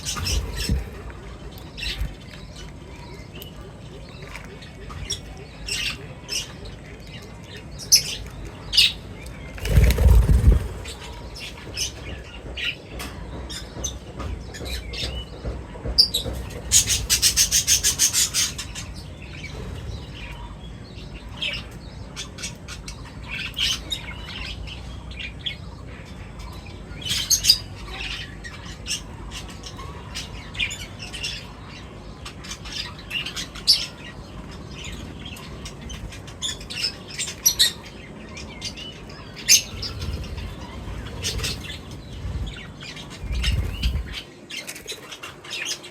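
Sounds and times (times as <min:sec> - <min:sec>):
birds chirping and squawking: 0:00.0 - 0:45.9.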